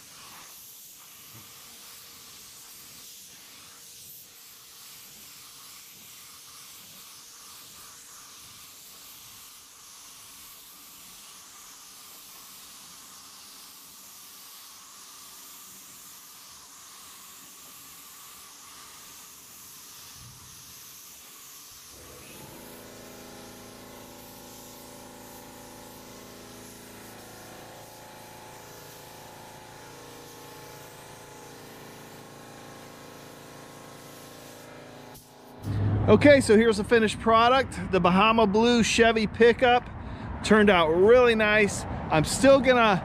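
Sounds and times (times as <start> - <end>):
paint spray gun hissing: 0.0 - 35.7.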